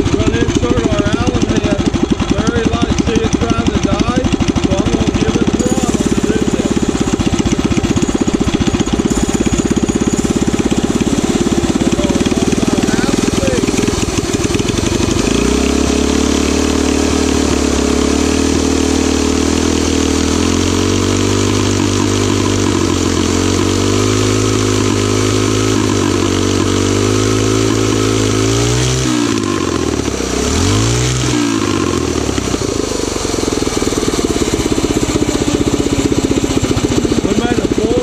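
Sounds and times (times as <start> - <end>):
single-cylinder engine running: 0.0 - 38.0.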